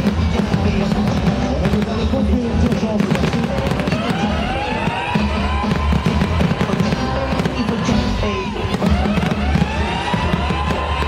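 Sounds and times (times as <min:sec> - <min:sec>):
fireworks bursting and crackling: 0:00.0 - 0:11.0
music playing: 0:00.0 - 0:11.0.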